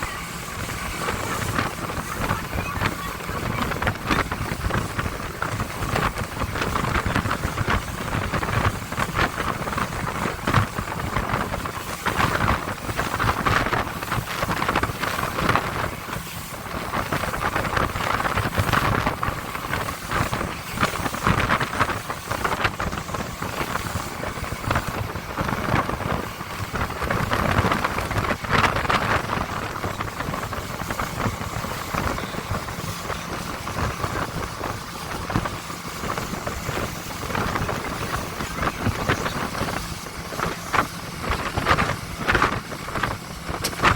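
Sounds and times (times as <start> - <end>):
motorboat engine running: 0.0 - 43.9
water rushing past: 0.0 - 43.9.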